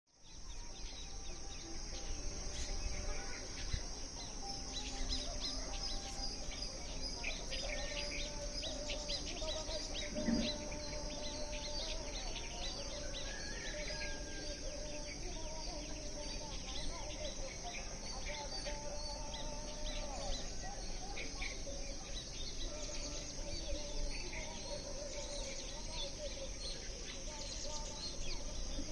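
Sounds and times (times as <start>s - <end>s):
birds chirping: 0.2s - 28.9s.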